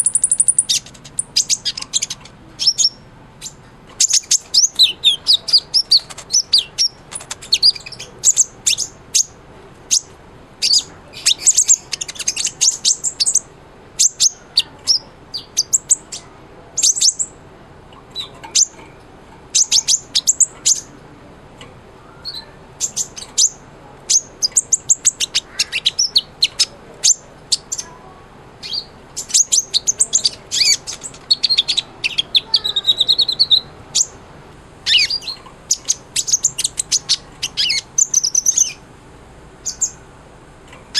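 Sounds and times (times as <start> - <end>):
sunbird singing high chirps: 0.0 - 17.4, 19.5 - 21.0, 22.0 - 34.2, 34.8 - 38.8, 39.6 - 40.1.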